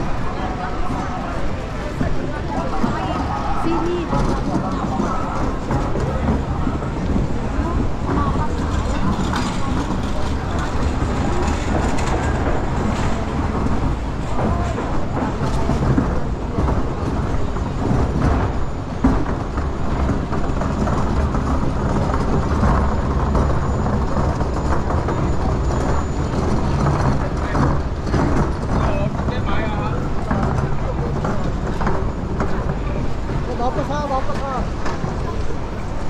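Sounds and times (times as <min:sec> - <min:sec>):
low rumble of vehicles: 0:00.0 - 0:36.0.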